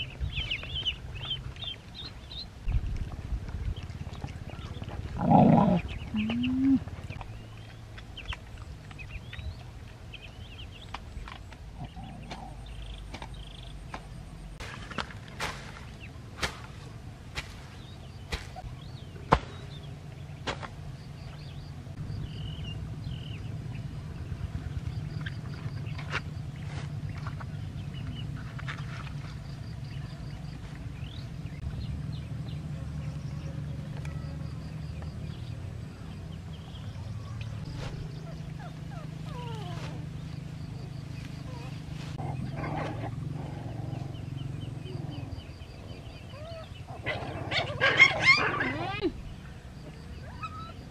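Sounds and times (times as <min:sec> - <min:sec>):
low hum: 0:00.0 - 0:48.4.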